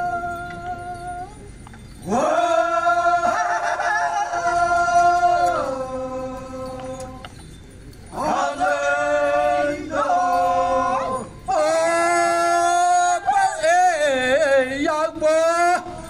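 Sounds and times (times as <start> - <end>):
men chanting in long notes: 0.0 - 1.4, 2.0 - 7.4, 8.1 - 16.0.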